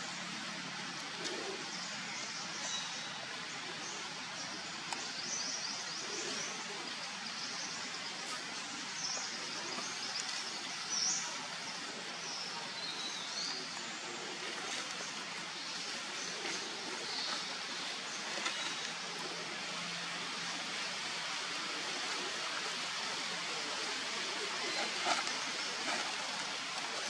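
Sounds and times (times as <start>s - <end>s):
steady woodland hiss: 0.0s - 27.0s.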